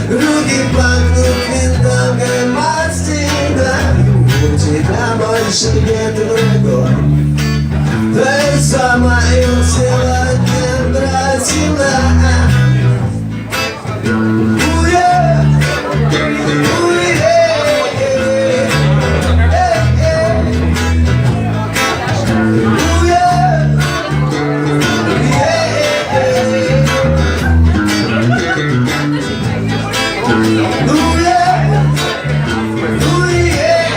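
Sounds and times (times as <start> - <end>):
instrumental guitar music: 0.0 - 33.9.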